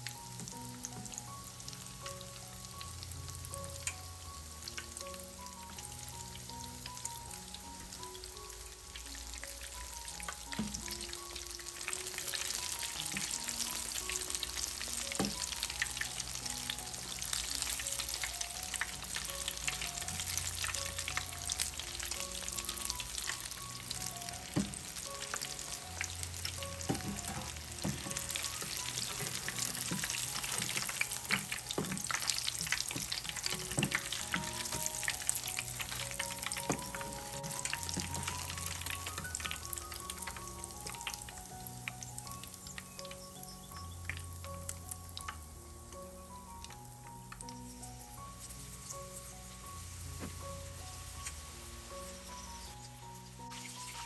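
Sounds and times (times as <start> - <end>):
oil sizzling while deep-frying: 0.0 - 54.0.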